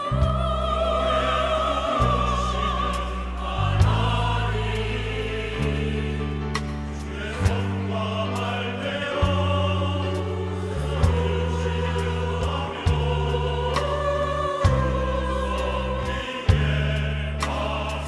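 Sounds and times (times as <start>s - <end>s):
church choir singing: 0.0s - 18.0s.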